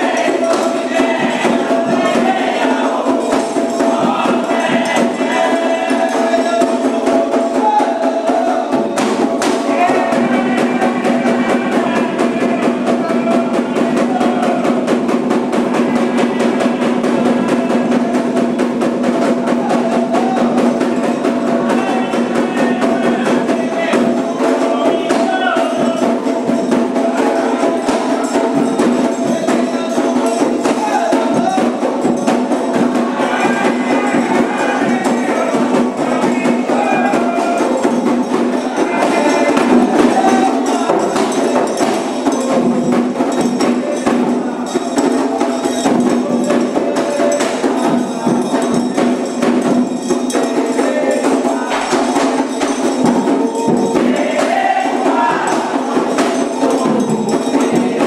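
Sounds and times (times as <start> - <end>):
drum percussion: 0.0 - 58.0
voices singing: 0.0 - 58.0.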